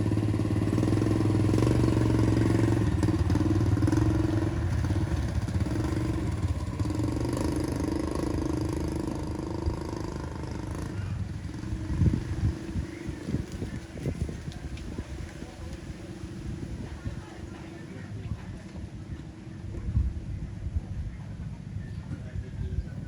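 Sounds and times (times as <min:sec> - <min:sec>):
small engine humming: 0:00.0 - 0:19.6.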